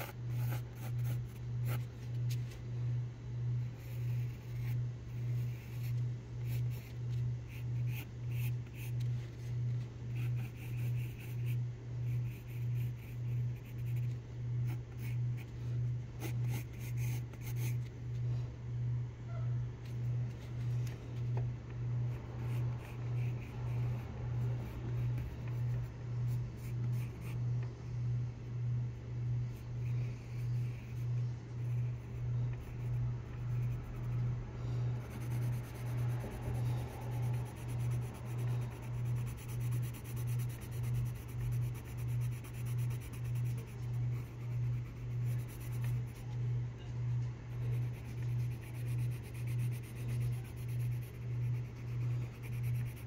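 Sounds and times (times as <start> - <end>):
pencil scratching on paper: 0.0 - 2.2, 3.7 - 9.5, 10.1 - 17.9, 22.1 - 27.4, 29.5 - 46.5, 47.5 - 53.0.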